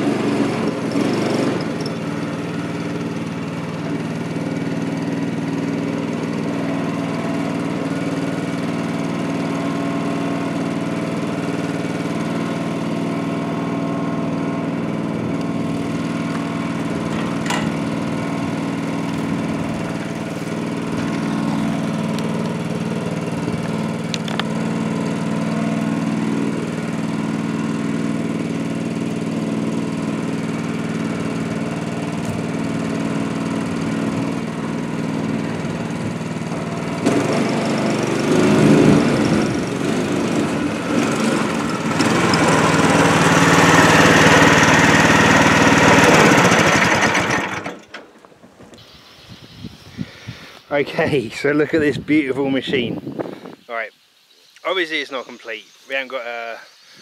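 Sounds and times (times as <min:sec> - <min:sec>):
small truck engine idling: 0:00.0 - 0:50.6.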